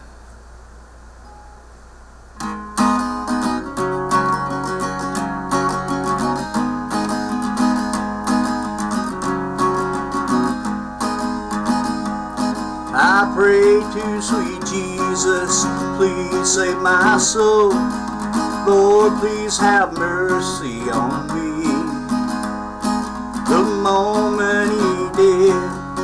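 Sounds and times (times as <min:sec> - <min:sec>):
faint room noise: 0:00.0 - 0:26.0
acoustic guitar strumming: 0:02.4 - 0:26.0.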